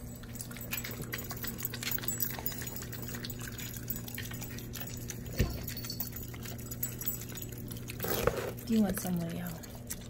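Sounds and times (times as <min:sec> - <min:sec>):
dog licking and eating: 0:00.0 - 0:10.0.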